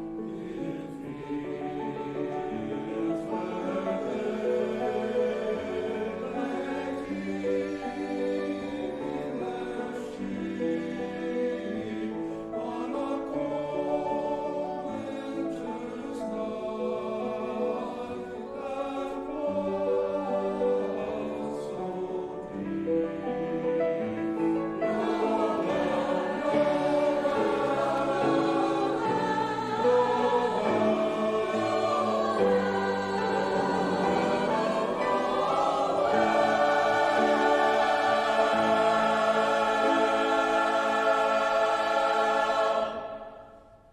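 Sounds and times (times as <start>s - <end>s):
choir singing with music: 0.0s - 43.9s.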